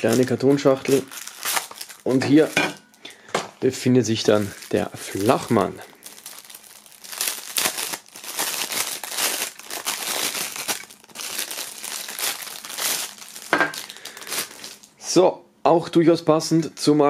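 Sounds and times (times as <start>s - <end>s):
plastic film crinkling: 0.0s - 15.0s.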